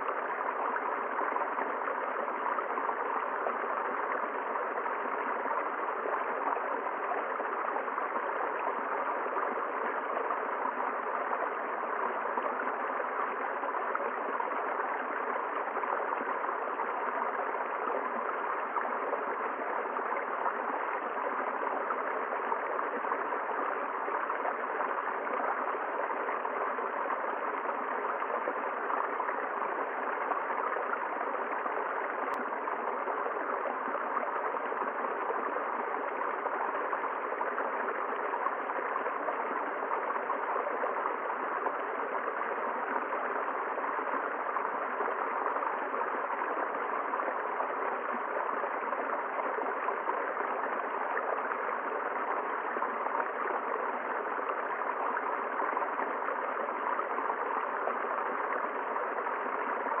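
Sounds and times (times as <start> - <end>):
river water flowing: 0.0 - 60.0.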